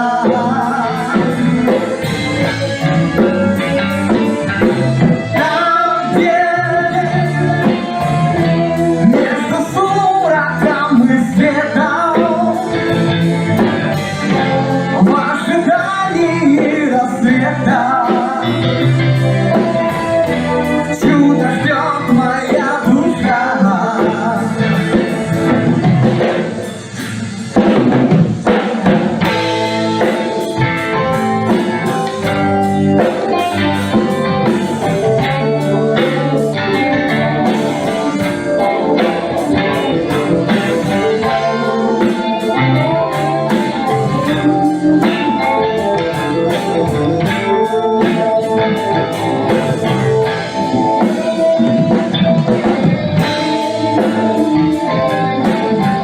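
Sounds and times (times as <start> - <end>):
rock band instrumental: 0.0 - 56.0.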